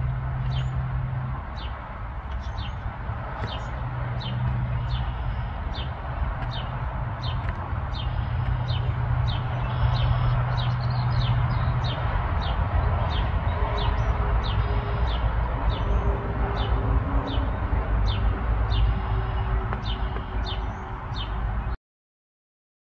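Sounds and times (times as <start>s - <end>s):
low rumble: 0.0s - 21.0s
small songbird chirping: 1.6s - 2.8s, 3.4s - 16.7s, 17.3s - 21.8s.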